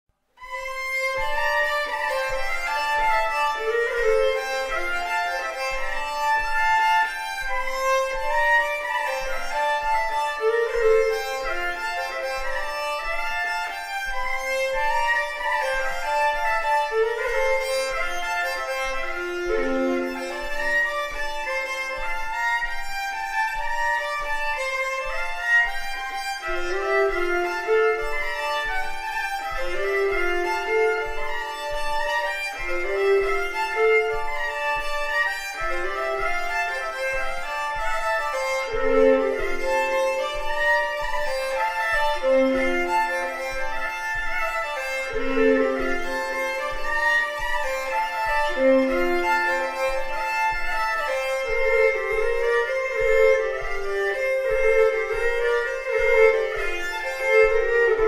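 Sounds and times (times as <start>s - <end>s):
solo fiddle folk tune: 0.2s - 58.0s.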